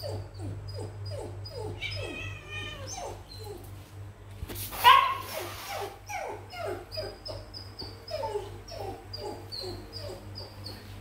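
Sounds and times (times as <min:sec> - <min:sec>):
animal crying: 0:00.0 - 0:03.6, 0:04.8 - 0:10.9.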